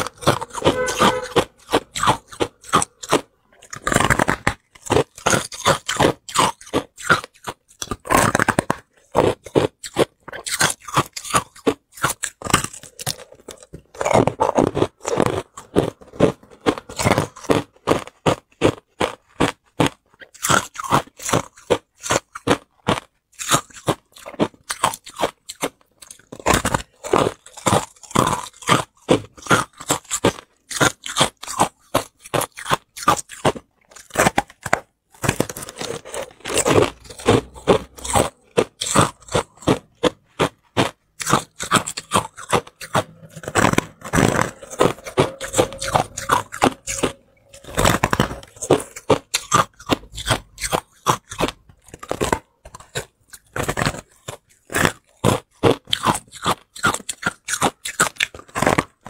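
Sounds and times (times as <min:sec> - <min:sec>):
chewing crushed ice: 0:00.0 - 0:59.0.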